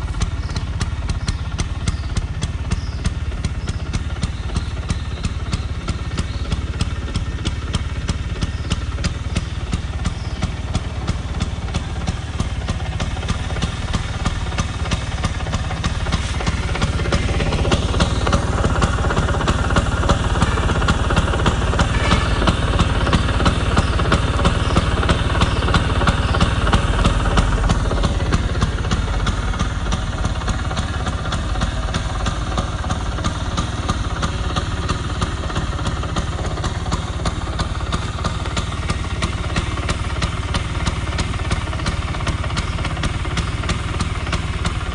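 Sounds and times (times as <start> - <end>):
scooter engine idling and revving: 0.0 - 44.9.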